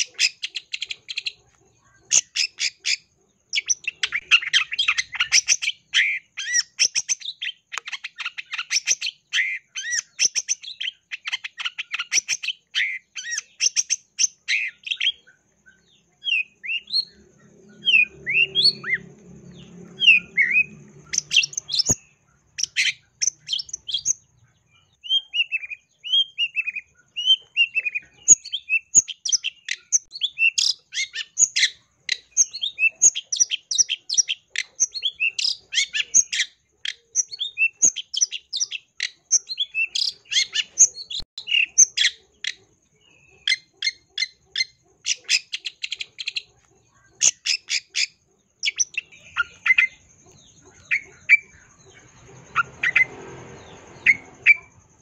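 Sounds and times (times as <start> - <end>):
bird harsh chattering: 0.0 - 15.5, 16.2 - 54.7.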